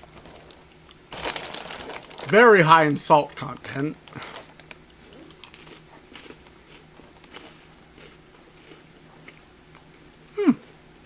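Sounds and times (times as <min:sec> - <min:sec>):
chewing crunchy crackers: 0:00.0 - 0:10.9.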